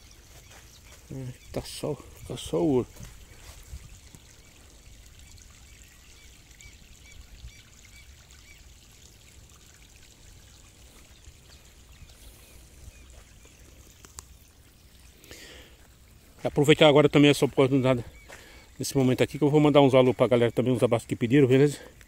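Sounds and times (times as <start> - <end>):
faint trickle of rainwater: 0.0 - 22.0.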